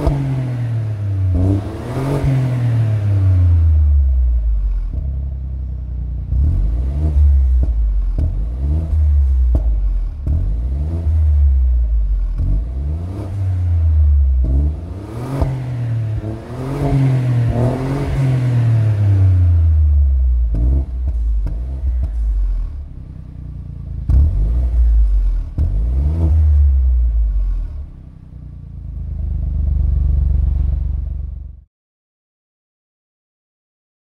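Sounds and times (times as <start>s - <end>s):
car engine revving through exhaust: 0.0s - 31.6s.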